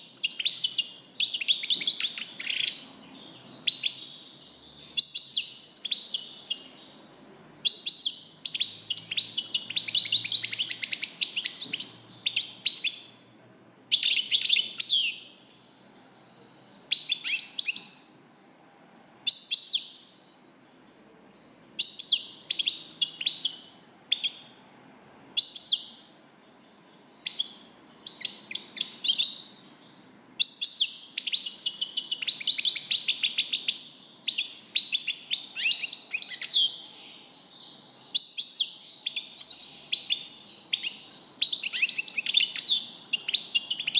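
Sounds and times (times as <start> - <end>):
finch twittering song: 0.0 - 24.6, 25.4 - 43.9.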